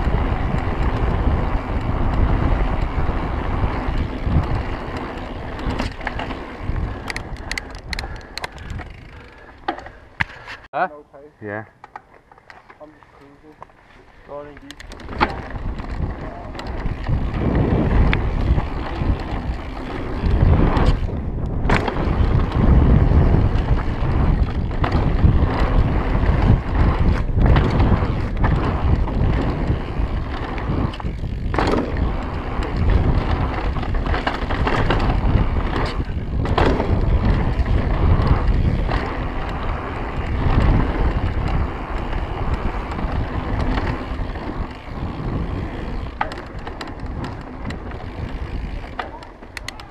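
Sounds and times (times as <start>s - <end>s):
wind noise on microphone: 0.0s - 9.6s, 14.7s - 49.9s
bike knocking and rattling: 0.0s - 10.7s, 11.8s - 49.9s
tyre noise on dirt: 0.0s - 10.7s, 14.8s - 49.9s.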